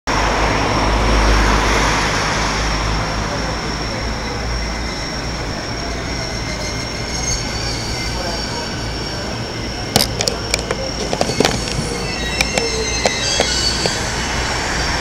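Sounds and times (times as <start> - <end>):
train rumbling on tracks: 0.1 - 15.0
high-pitched whine: 0.2 - 15.0.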